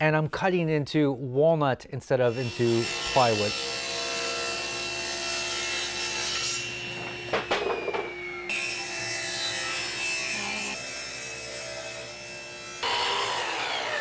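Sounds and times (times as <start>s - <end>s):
table saw cutting wood: 2.3s - 14.0s.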